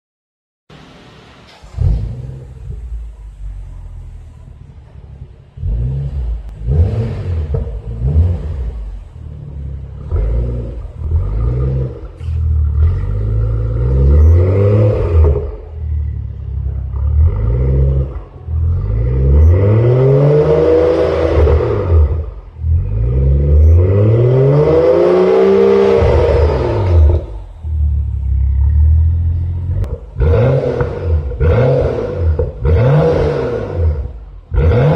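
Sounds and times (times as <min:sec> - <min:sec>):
car engine revving: 0:01.4 - 0:34.9.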